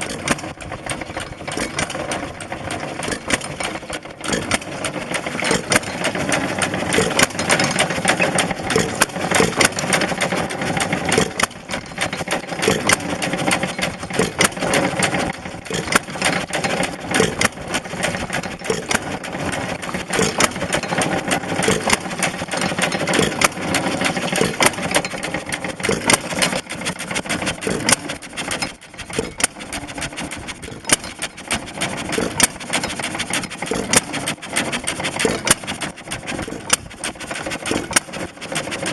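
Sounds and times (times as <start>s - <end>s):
sharp clicks and knocks: 0.0s - 38.9s
stationary engine running: 0.0s - 38.9s.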